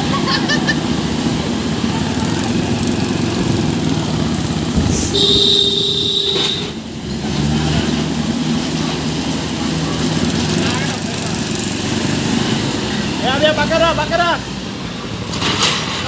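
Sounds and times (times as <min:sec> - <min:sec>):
tractor engine running: 0:00.8 - 0:07.1, 0:08.0 - 0:16.0.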